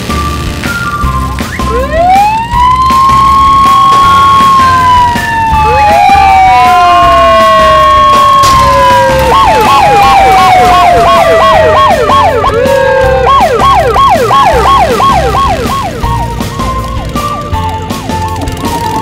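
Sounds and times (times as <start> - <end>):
background music with low beat: 0.0 - 19.0
repeating siren yelp: 0.3 - 19.0.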